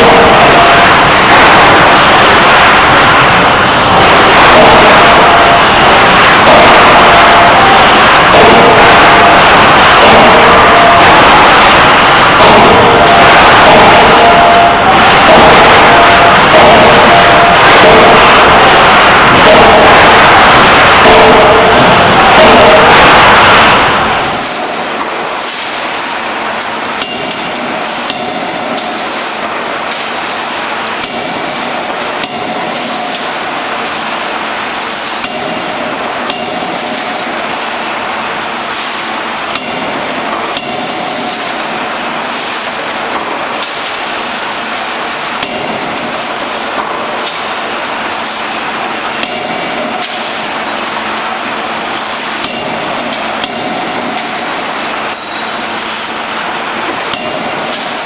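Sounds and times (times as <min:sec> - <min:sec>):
forging hammer blows: 0:00.0 - 0:58.0
loud machine din: 0:00.0 - 0:58.0.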